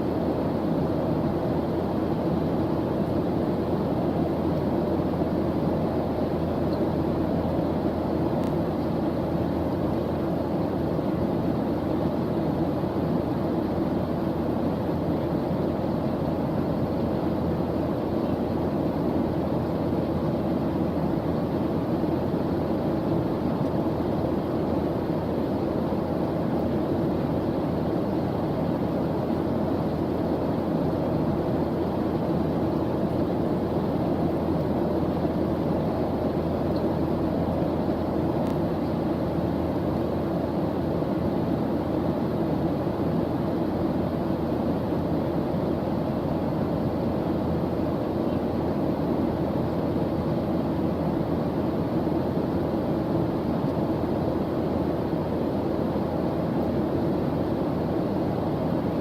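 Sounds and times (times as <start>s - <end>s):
deep white noise: 0.0s - 59.0s.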